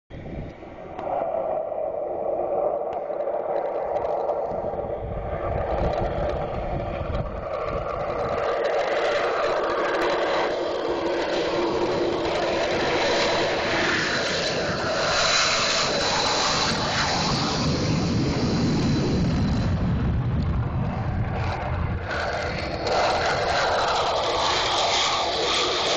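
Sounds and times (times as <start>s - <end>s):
jet engines at takeoff power: 0.1s - 25.9s.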